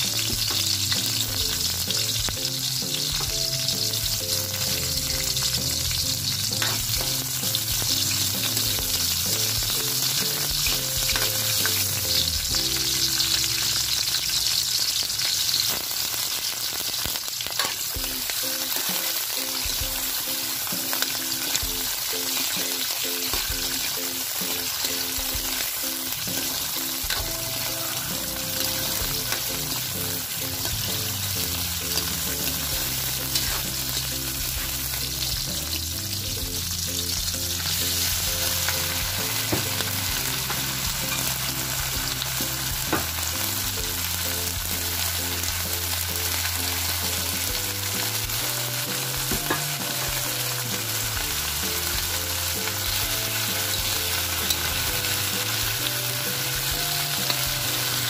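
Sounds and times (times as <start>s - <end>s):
food sizzling in a hot pan: 0.0s - 58.0s.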